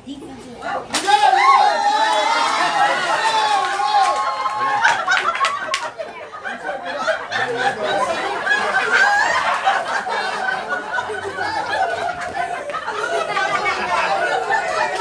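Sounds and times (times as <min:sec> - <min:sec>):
people chattering and laughing: 0:00.0 - 0:15.0.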